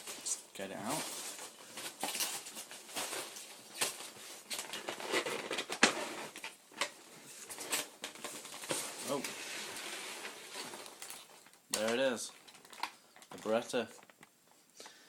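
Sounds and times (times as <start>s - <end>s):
foam and cardboard rustling: 0.0s - 12.2s.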